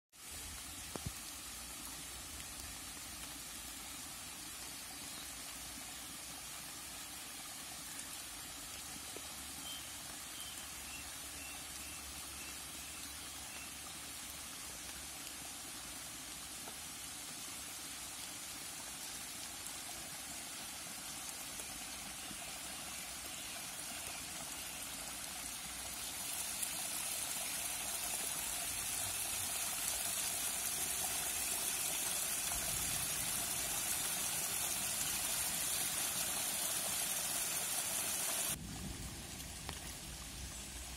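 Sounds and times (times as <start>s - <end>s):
creek water rushing over rocks: 0.2s - 38.7s.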